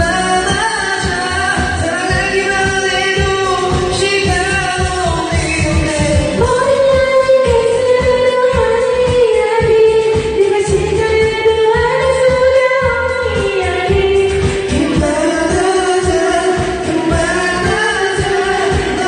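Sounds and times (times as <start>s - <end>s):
karaoke backing track with beat: 0.0s - 19.0s
person singing pop song: 0.0s - 19.0s.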